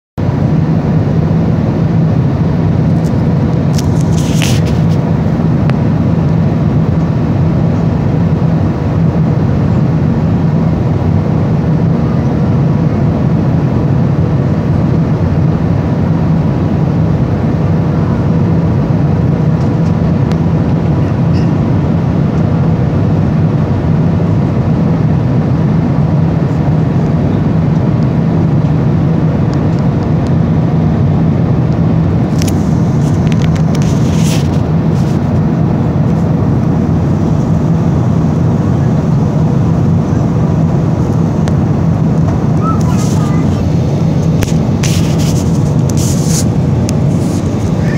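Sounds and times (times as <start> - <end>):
airliner cabin engine rush: 0.2 - 47.9.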